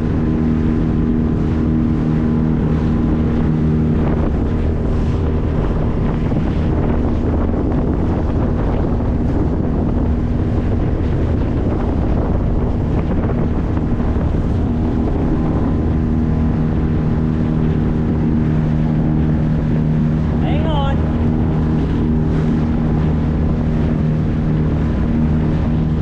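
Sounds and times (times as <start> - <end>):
outboard motor running: 0.0 - 26.0
water rushing along hull: 0.0 - 26.0
wind buffeting microphone: 0.0 - 26.0.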